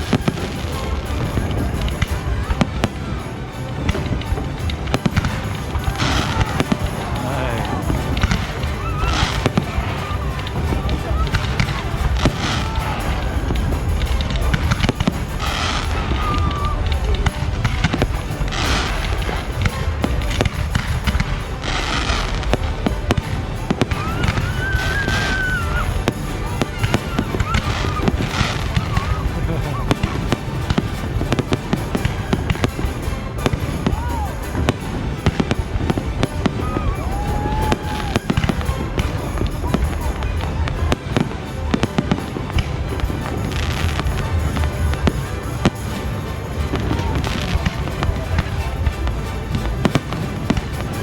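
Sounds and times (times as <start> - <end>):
firework bangs and crackling: 0.0 - 51.0
whistling firework tone: 0.0 - 51.0.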